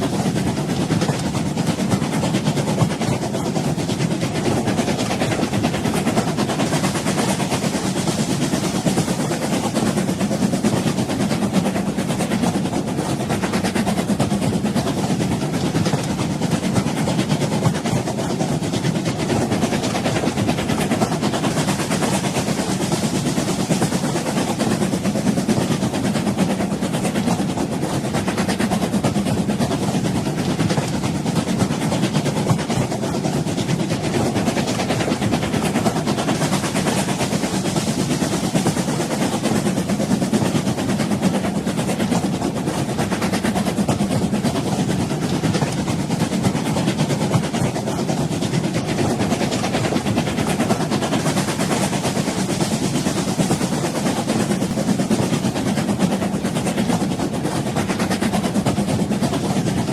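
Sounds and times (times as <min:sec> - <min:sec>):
train rumbling with hiss: 0:00.0 - 0:59.9.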